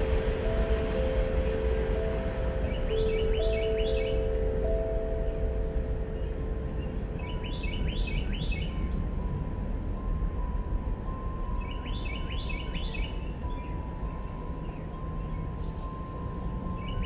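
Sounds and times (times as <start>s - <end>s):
background noise: 0.0s - 17.0s
songbird chirping: 0.0s - 17.0s.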